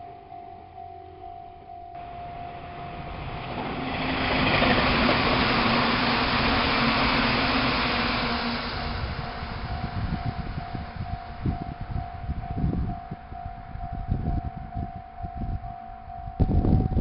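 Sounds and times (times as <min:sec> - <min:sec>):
steady low hum: 0:00.0 - 0:16.6
train rail noise: 0:01.7 - 0:16.8.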